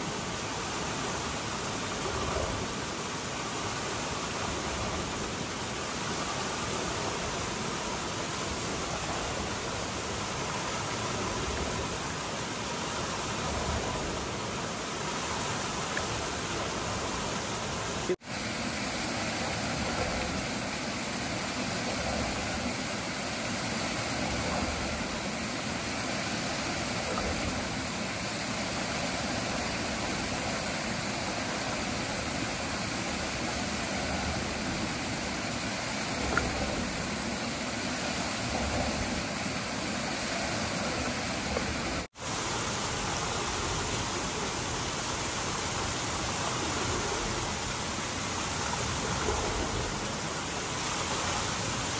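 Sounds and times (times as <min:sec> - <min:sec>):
running water rushing: 0:00.0 - 0:51.9.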